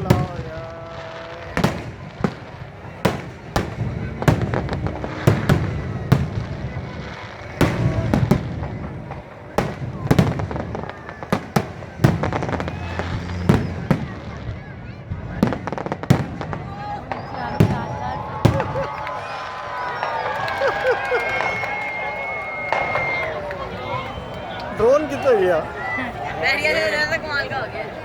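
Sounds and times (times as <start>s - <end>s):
fireworks bursting with rumbling echo: 0.0s - 25.9s
people talking: 0.0s - 28.0s.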